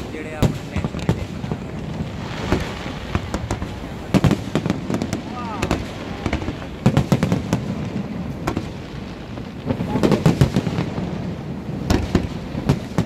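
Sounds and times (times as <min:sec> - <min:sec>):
fireworks cracks and bangs: 0:00.0 - 0:13.0.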